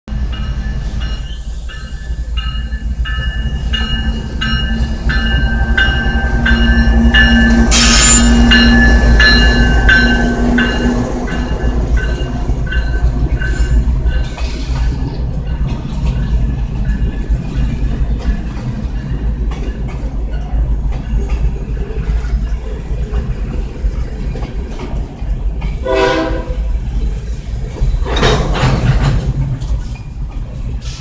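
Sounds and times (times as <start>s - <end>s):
train passing rumble: 0.1s - 31.0s.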